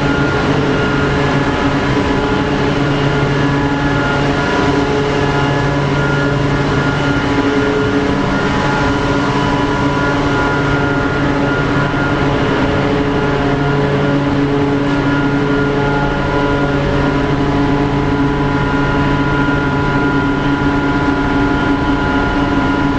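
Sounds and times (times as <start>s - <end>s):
air compressors droning: 0.0s - 22.9s.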